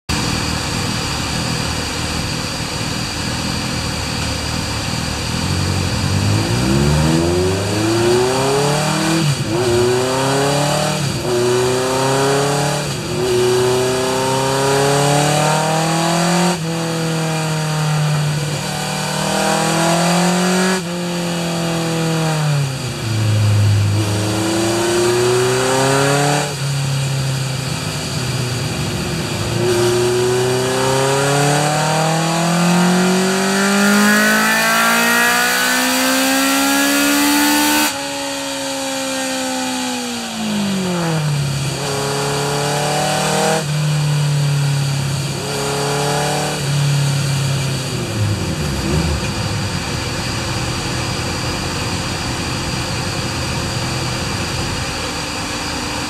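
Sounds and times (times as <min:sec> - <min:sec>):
motorcycle engine revving: 0:00.2 - 0:56.0.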